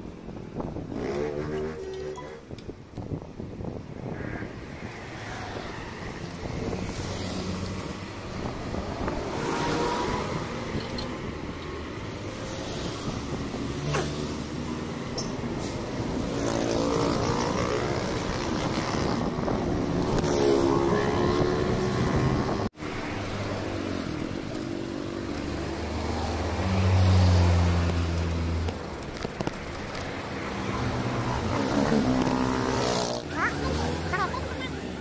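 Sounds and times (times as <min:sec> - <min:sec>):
road noise: 0:00.0 - 0:35.0
vehicles passing by: 0:00.0 - 0:35.0.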